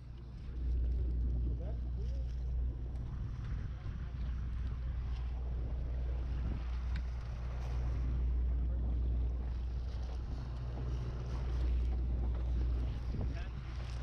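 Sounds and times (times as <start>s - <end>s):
boat engine droning: 0.0s - 14.0s
water noise: 0.0s - 14.0s
wind: 0.0s - 14.0s.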